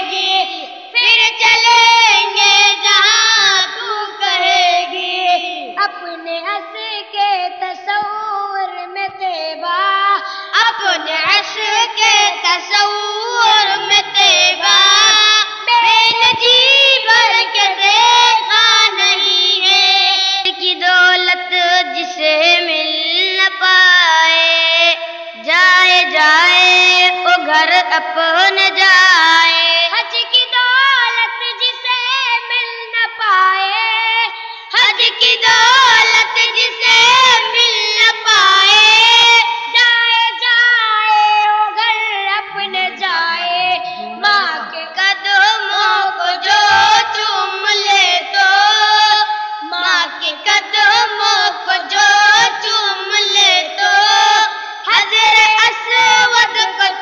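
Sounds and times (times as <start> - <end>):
children singing devotional song: 0.0 - 57.0.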